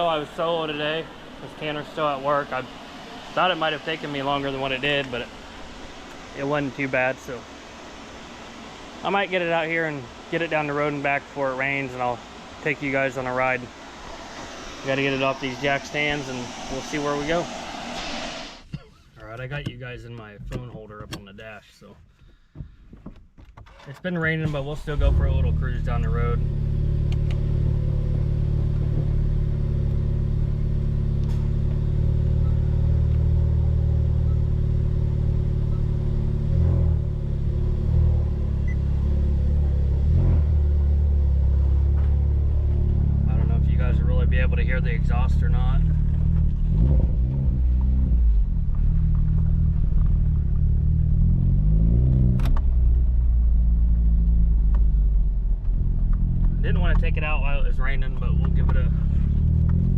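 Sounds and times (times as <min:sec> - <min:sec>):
car engine drone from cabin: 0:00.0 - 0:19.7, 0:24.4 - 0:59.9.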